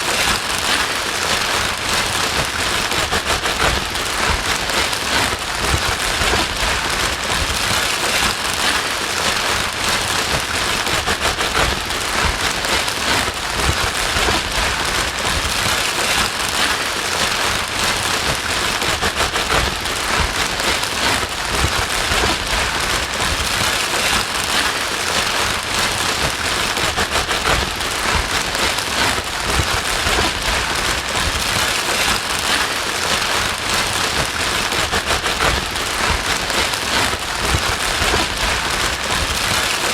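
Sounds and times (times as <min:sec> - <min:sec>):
white noise hiss with crackling: 0:00.0 - 0:39.9.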